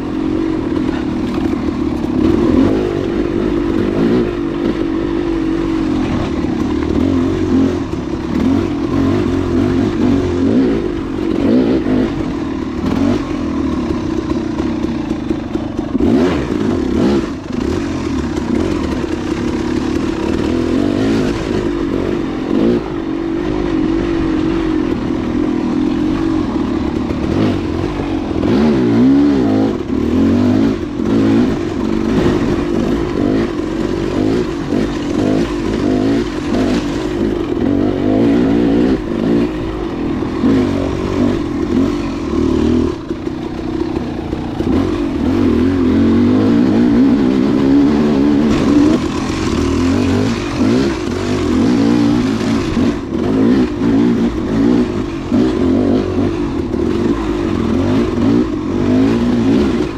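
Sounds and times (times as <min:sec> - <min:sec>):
motorcycle engine revving: 0:00.0 - 0:59.9
knocks and clatter from bike: 0:00.1 - 0:59.9.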